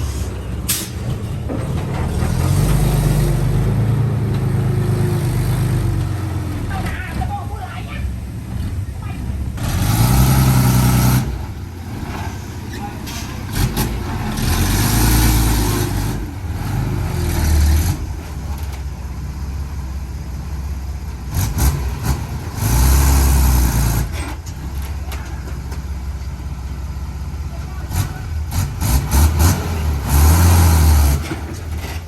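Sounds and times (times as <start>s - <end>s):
diesel machinery engine rumbling: 0.0s - 32.0s.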